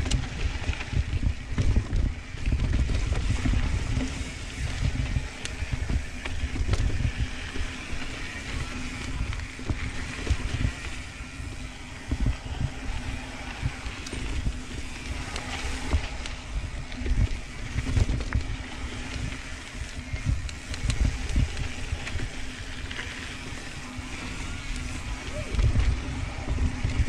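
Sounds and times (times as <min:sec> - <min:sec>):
bike clicks and rattles: 0:00.0 - 0:27.0
bike tyre noise on dirt: 0:00.0 - 0:27.0
wind buffeting microphone: 0:00.0 - 0:27.0.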